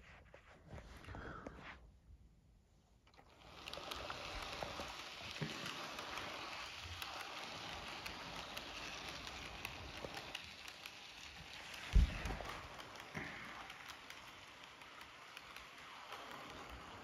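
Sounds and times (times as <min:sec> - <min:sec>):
toy train wheels clattering: 0:03.2 - 0:17.0.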